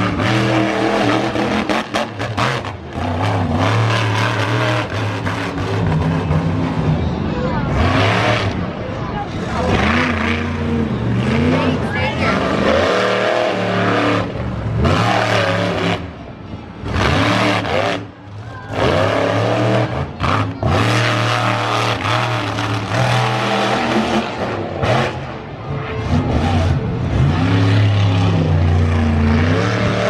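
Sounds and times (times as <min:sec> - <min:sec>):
truck engine revving hard: 0:00.0 - 0:30.0.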